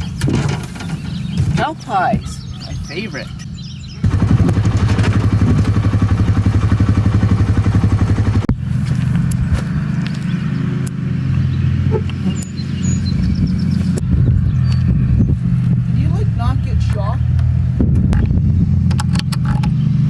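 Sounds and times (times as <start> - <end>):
small engine running: 3.3 - 20.0.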